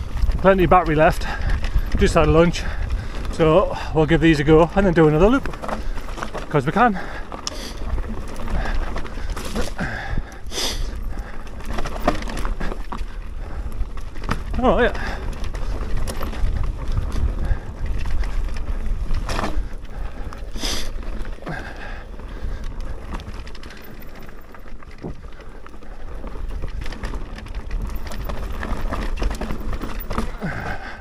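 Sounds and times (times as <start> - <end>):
bike tyre noise and rattle: 0.0 - 31.0
wind rumbling on microphone: 0.0 - 31.0.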